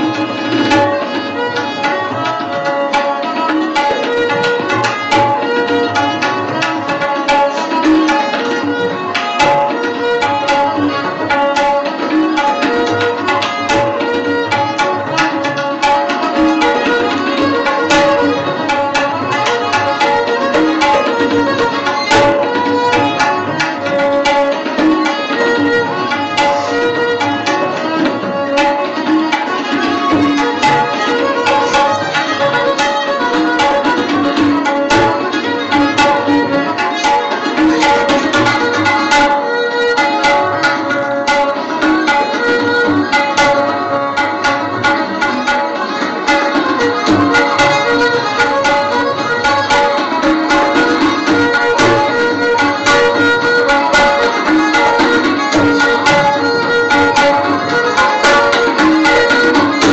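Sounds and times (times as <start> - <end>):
hand-drum strokes: 0.0 - 39.5, 46.5 - 59.9
classical melodic line: 0.0 - 59.9.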